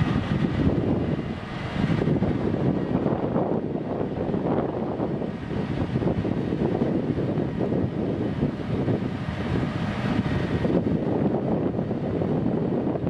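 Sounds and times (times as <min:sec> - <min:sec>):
crane engine running: 0:00.0 - 0:13.0
wind buffeting microphone: 0:00.0 - 0:13.0.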